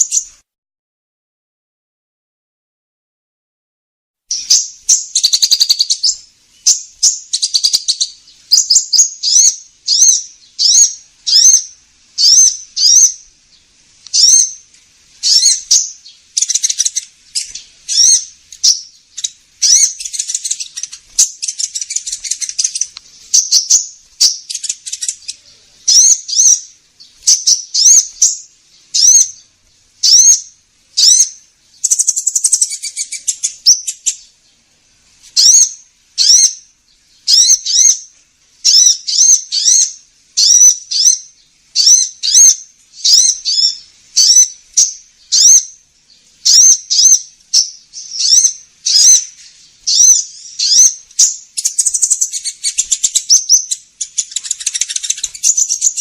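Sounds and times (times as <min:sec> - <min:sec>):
bird chirps and trills: 0:00.0 - 0:00.4, 0:04.3 - 0:34.7, 0:35.3 - 0:56.0.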